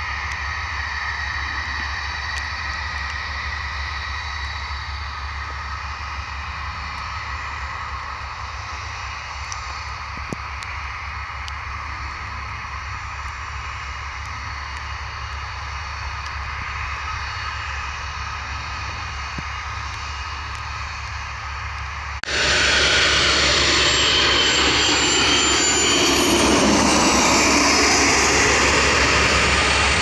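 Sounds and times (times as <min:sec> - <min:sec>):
jet engine whine: 0:00.0 - 0:30.0.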